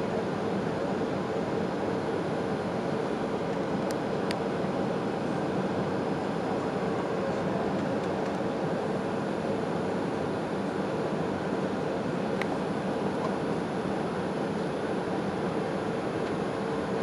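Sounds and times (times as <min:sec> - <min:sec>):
constant cabin hum: 0:00.0 - 0:17.0
jet engines and airflow rushing: 0:00.0 - 0:17.0.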